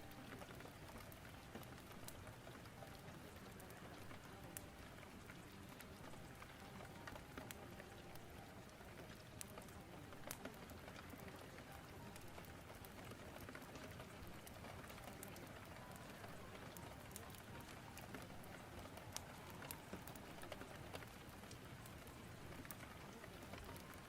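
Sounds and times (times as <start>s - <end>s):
faint rain hiss: 0.0s - 24.0s
small sharp crackles and pops: 0.0s - 24.0s.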